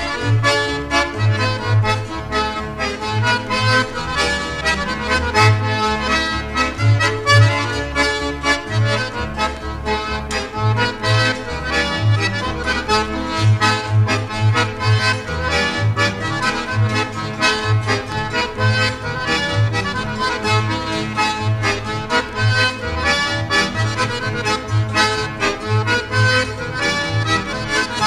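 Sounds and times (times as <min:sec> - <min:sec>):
polka music with accordion: 0:00.0 - 0:28.0.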